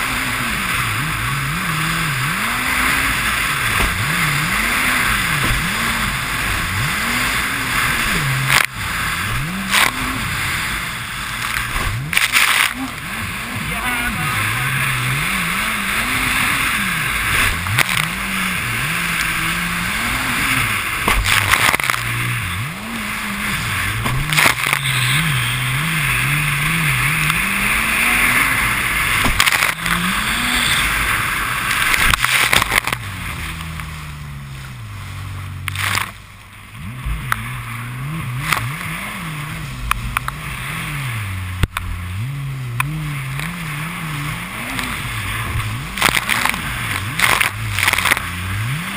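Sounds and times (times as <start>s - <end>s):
jet ski engine running: 0.0s - 48.9s.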